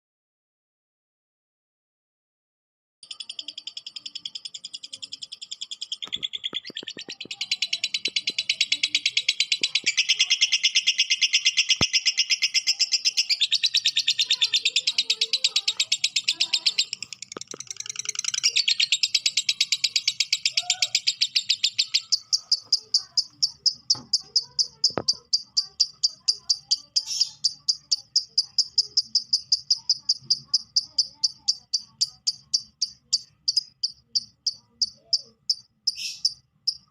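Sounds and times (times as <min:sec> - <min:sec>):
lovebird high-pitched chatter: 0:03.0 - 0:36.9.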